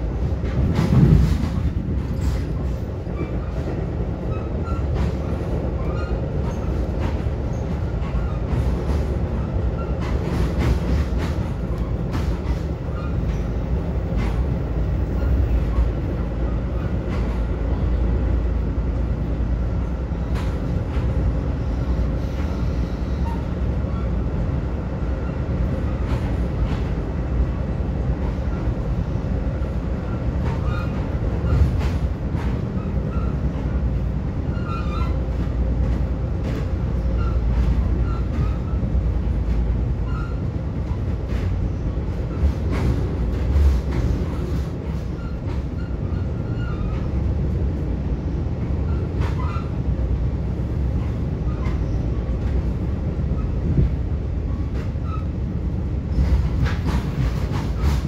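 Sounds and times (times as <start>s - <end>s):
train wheels clacking: 0.0s - 18.0s, 20.1s - 24.2s, 25.2s - 47.9s, 48.7s - 58.0s
train coach rumbling: 0.0s - 58.0s.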